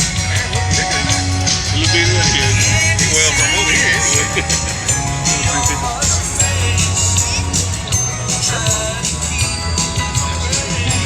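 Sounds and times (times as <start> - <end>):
music with singing: 0.0 - 11.0
steady bass line: 0.0 - 11.0.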